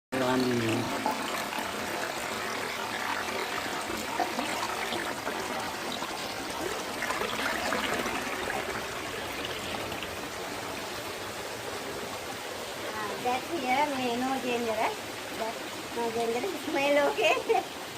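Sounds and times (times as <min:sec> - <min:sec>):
stream trickling and pouring: 0:00.2 - 0:17.9.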